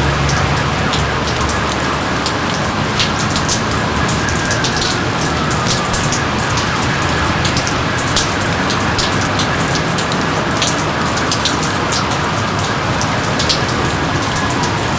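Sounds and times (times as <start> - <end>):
heavy rain: 0.0 - 14.9
raindrops splashing: 0.0 - 14.9.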